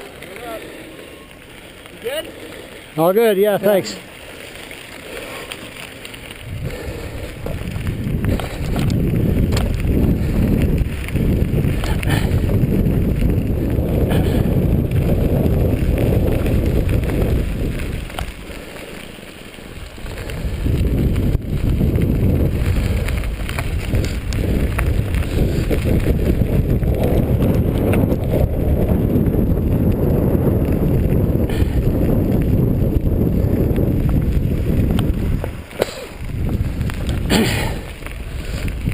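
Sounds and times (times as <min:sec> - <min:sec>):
bike tyres rattling over ground: 0:00.0 - 0:38.9
wind on microphone: 0:06.2 - 0:18.6, 0:19.7 - 0:38.9.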